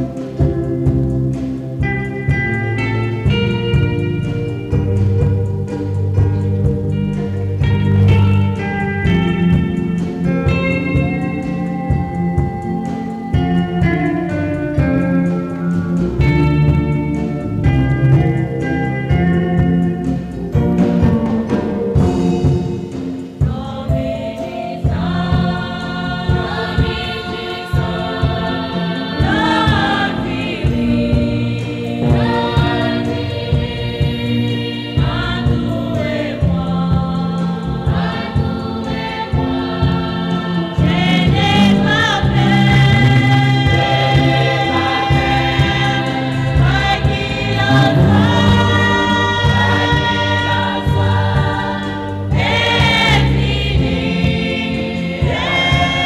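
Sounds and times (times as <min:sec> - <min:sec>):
choir singing a gospel song: 0:00.0 - 0:56.0
rhythmic accompaniment beat: 0:00.0 - 0:56.0.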